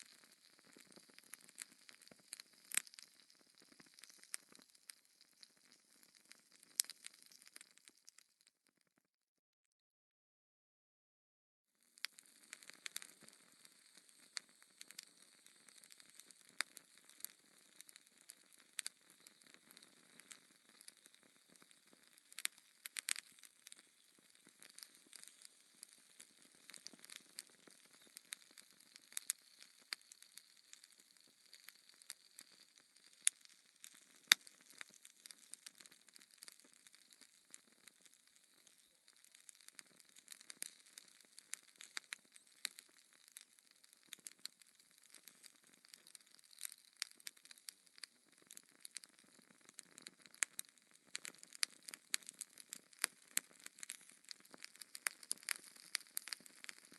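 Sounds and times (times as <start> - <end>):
wood fire crackling and popping: 0.0 - 8.6, 11.9 - 56.9.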